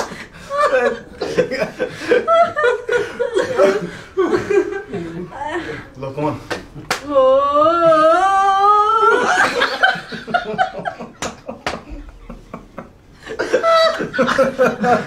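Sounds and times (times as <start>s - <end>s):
group laughing: 0.0s - 5.9s, 6.6s - 15.0s.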